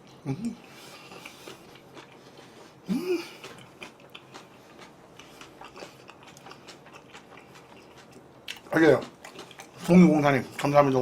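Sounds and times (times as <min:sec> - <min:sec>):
person chewing food: 0:00.0 - 0:10.9.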